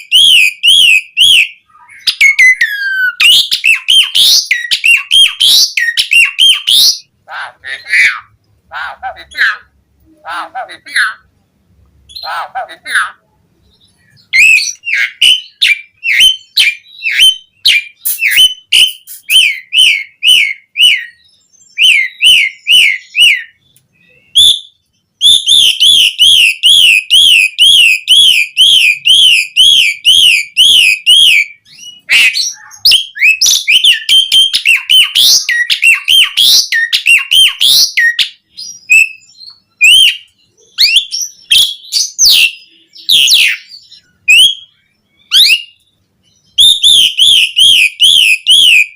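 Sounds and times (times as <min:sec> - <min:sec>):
starling singing: 0:00.0 - 0:11.4, 0:12.0 - 0:48.9.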